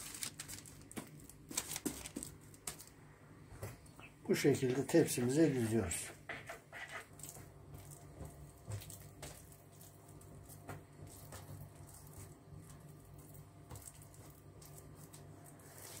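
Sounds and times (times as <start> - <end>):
dough squishing by hand: 0.0 - 16.0.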